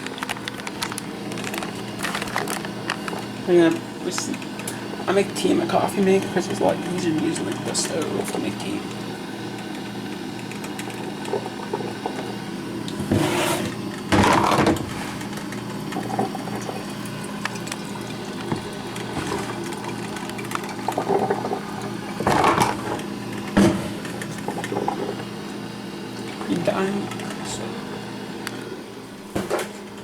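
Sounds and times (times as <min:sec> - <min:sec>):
coffee maker hum: 0:00.0 - 0:30.0
gurgling and hissing water: 0:00.6 - 0:29.3.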